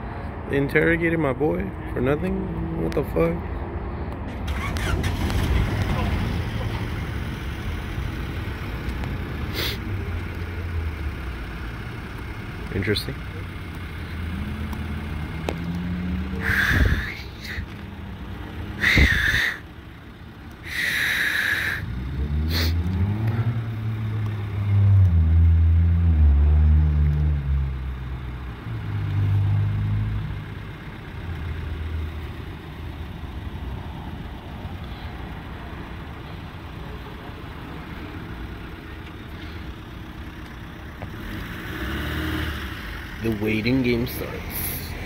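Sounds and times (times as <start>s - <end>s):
low traffic rumble: 0.0s - 45.0s
car engine accelerating: 4.0s - 45.0s.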